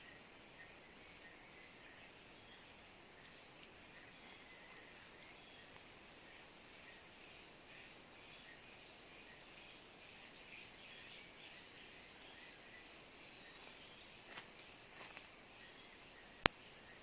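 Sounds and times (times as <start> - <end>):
insects: 0.0 - 17.0.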